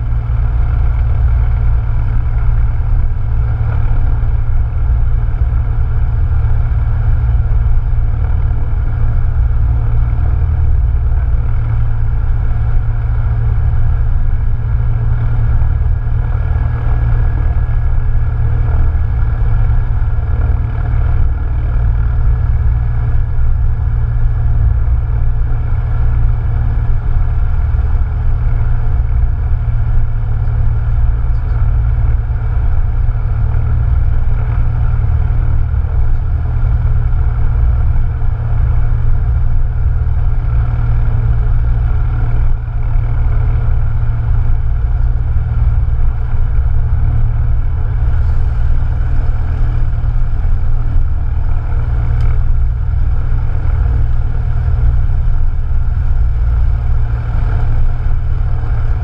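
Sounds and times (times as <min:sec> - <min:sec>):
airplane propeller engine drone: 0:00.0 - 0:59.0.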